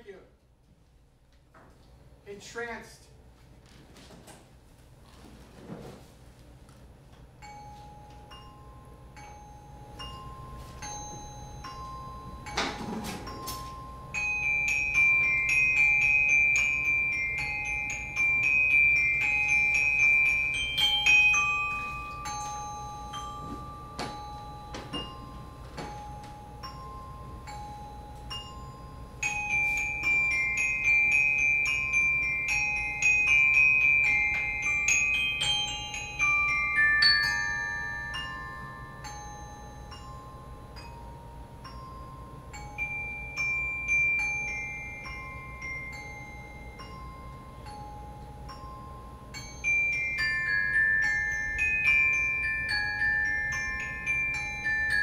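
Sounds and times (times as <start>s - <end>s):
glockenspiel repeated high notes: 7.3s - 55.0s.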